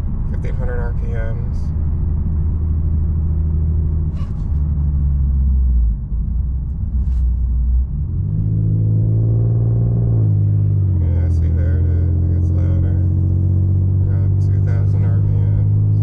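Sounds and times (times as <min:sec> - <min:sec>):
exhaust drone inside car: 0:00.0 - 0:16.0.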